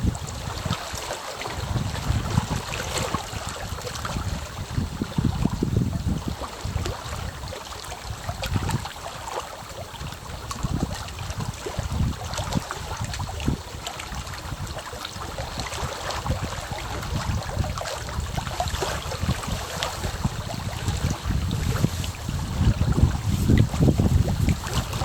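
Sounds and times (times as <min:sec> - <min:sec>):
low water surges: 0:00.0 - 0:25.0
small waves lapping: 0:00.0 - 0:25.0.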